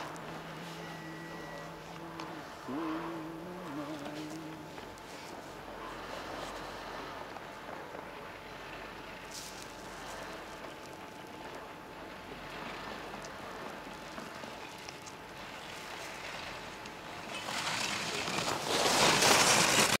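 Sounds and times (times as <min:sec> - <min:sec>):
skis scraping on snow: 0:00.0 - 0:11.7, 0:12.5 - 0:20.0.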